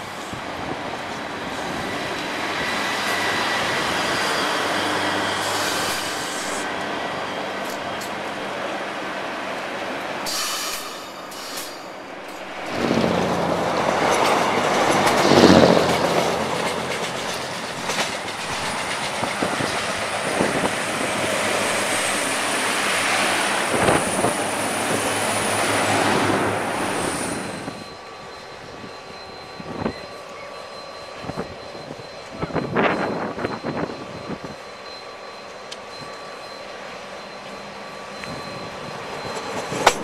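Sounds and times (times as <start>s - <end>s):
diesel train passing: 0.0s - 40.0s.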